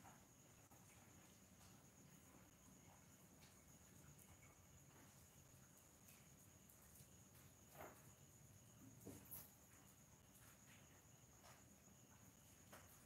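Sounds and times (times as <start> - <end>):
faint high-pitched whine: 0.0 - 13.0.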